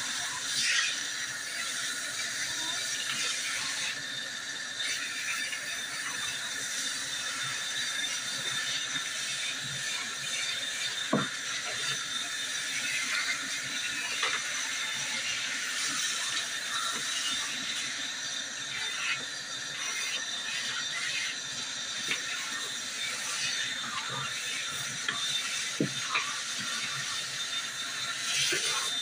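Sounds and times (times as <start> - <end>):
water sprayer hissing into basin: 0.0 - 29.0.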